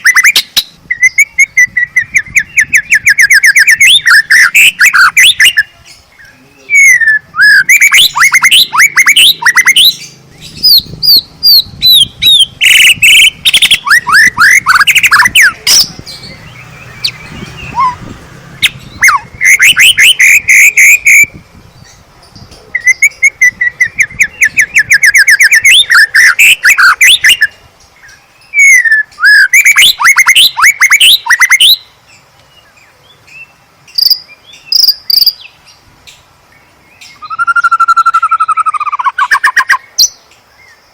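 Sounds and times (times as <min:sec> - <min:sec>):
bird singing whistles and trills: 0:00.0 - 0:31.9, 0:36.7 - 0:40.9.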